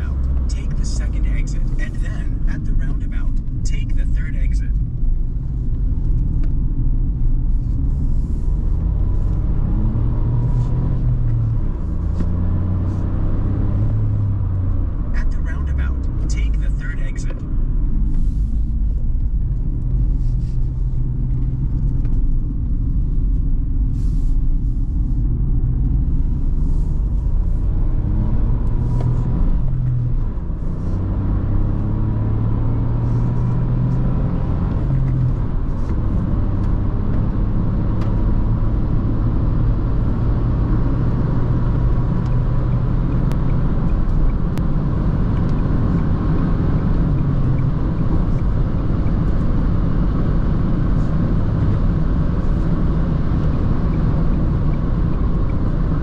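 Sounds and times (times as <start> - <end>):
car engine running: 0.0 - 56.0
tyre and road noise: 0.0 - 56.0.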